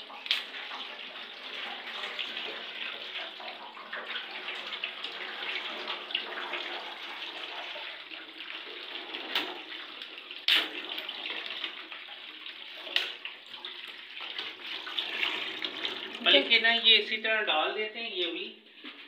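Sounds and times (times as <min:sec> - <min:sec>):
tap water running: 0:00.0 - 0:17.1.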